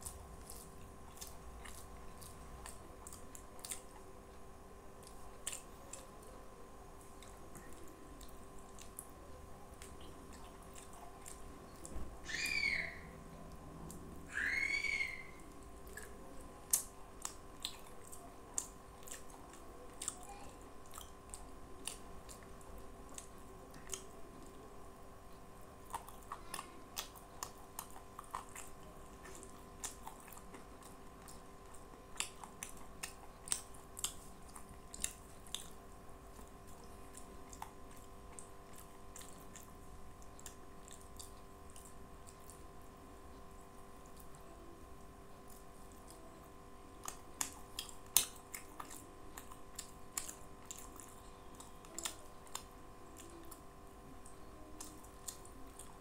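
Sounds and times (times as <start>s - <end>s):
wet mouth clicks and chewing: 0.0s - 6.4s, 7.0s - 12.0s, 15.5s - 24.6s, 25.3s - 42.8s, 43.4s - 44.5s, 45.4s - 56.0s
faint steady hum: 0.0s - 56.0s.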